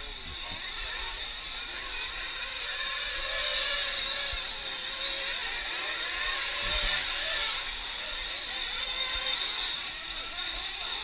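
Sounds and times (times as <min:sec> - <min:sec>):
small engines screaming at high revs: 0:00.0 - 0:11.0.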